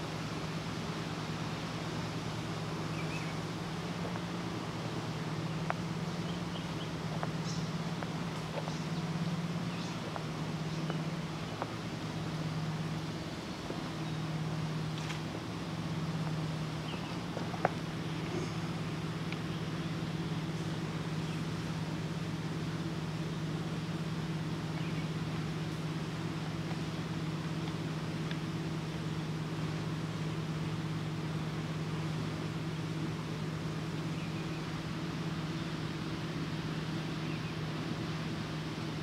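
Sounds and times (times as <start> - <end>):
low motor hum: 0.0 - 39.0.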